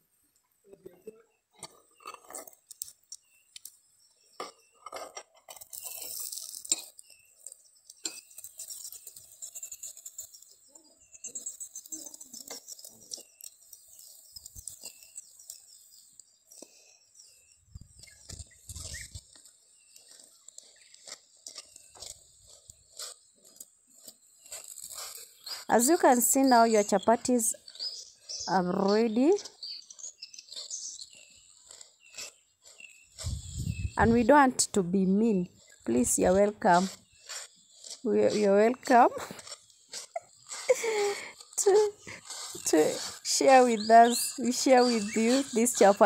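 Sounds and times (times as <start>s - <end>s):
metal spoon scraping pan: 4.4s - 15.7s, 18.2s - 46.0s.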